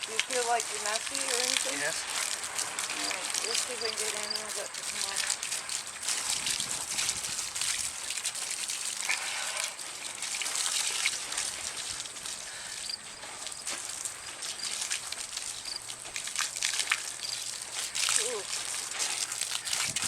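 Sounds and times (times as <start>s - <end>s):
garden hose spraying water: 0.0s - 20.0s.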